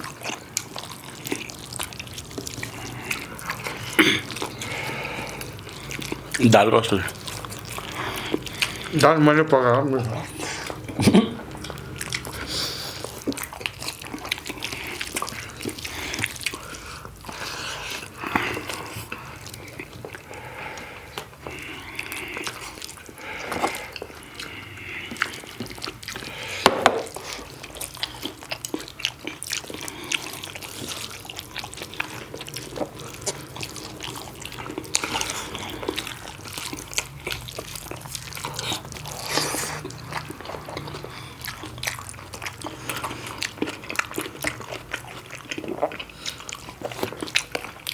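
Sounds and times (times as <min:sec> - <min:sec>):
wet chewing and lip-smacking: 0:00.0 - 0:47.9.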